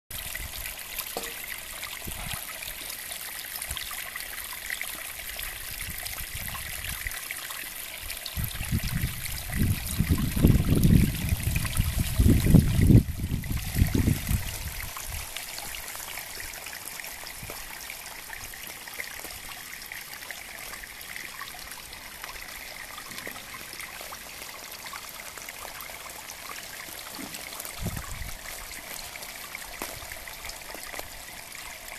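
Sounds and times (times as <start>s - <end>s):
water splashing into pond: 0.1s - 31.9s.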